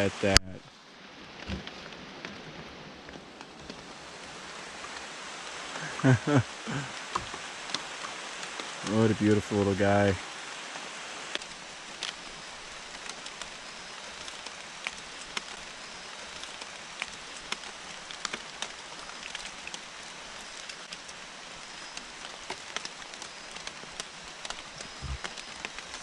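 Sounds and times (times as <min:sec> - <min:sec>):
rain on foliage: 0:00.0 - 0:26.0.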